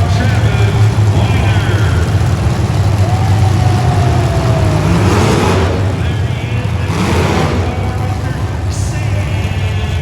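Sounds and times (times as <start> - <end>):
car engine revving: 0.0 - 10.0
low engine drone: 0.0 - 10.0.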